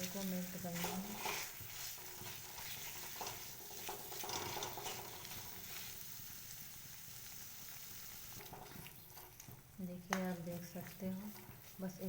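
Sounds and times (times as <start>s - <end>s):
spoon scraping a pan: 0.0s - 6.0s, 8.3s - 12.0s
food sizzling in a pan: 0.0s - 12.0s.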